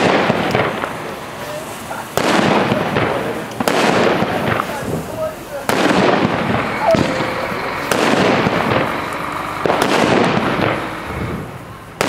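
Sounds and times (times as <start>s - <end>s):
firecrackers fizzing: 0.0s - 12.0s.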